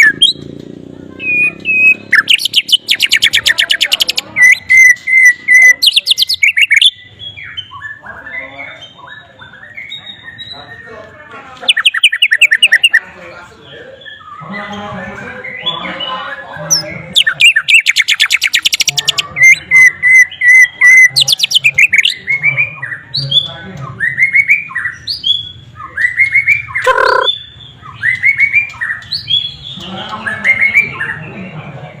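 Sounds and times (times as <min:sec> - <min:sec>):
bird singing with trills and whistles: 0:00.0 - 0:10.9, 0:11.6 - 0:31.5.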